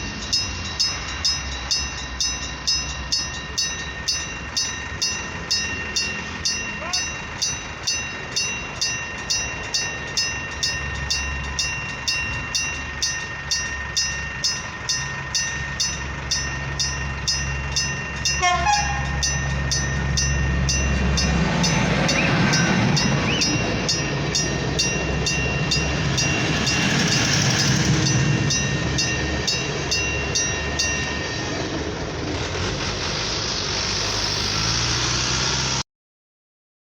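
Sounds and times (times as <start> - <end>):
regular ticking of train: 0.0 - 35.7
train engine humming: 0.0 - 35.8.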